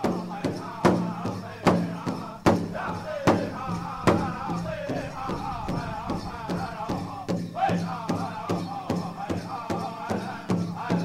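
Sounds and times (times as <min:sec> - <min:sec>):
drum beating: 0:00.0 - 0:11.0
voices singing: 0:00.0 - 0:11.0.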